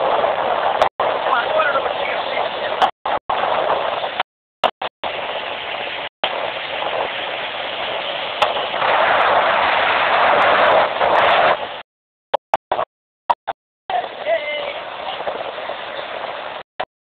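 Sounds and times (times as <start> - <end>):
wind rushing over microphone: 0.0 - 11.9, 13.9 - 16.7.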